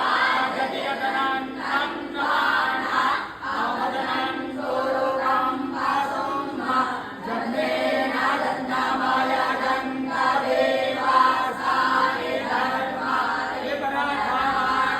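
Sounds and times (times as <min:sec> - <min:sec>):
group chanting in unison: 0:00.0 - 0:14.9.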